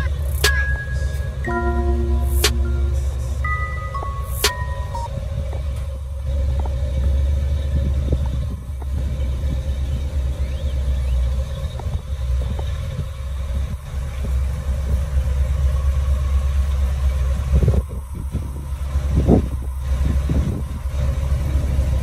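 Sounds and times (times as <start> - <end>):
truck engine running low: 0.0 - 22.0.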